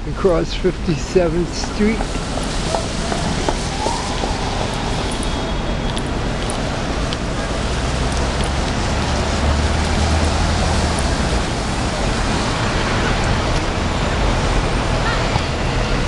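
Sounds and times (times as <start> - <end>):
rain hissing on wet road: 0.0 - 16.0
vehicle engine rumble: 0.0 - 16.0.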